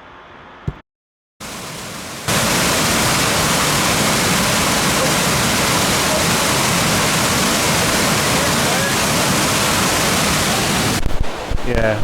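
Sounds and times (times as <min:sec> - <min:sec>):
waterfall rushing: 0:01.4 - 0:12.0.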